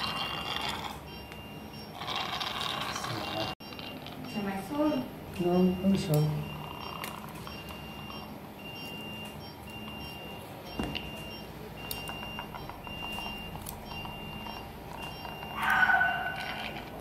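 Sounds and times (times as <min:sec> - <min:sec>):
patient monitor beeping: 0:00.0 - 0:17.0.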